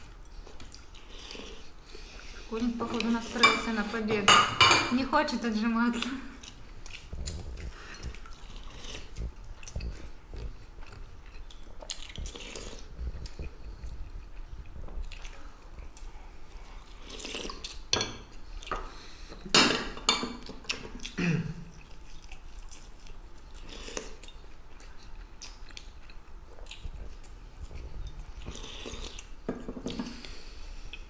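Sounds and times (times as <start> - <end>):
chewing: 0.0 - 2.4, 6.0 - 19.1, 20.4 - 31.0.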